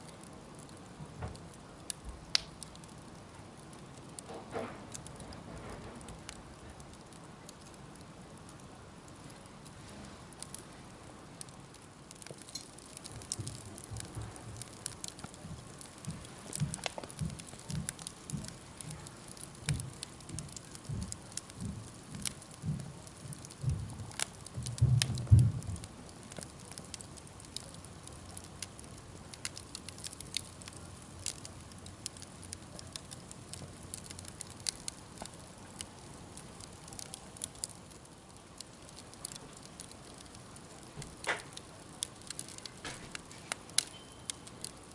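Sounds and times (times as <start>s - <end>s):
wood campfire crackling: 0.0s - 44.9s
sharp fire pops: 0.2s - 3.0s, 3.8s - 10.7s, 11.4s - 44.9s.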